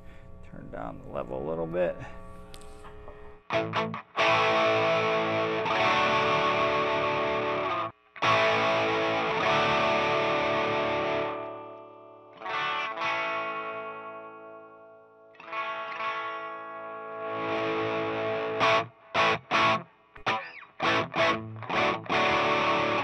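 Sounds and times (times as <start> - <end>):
overdriven electric guitar chords: 0.0 - 23.0.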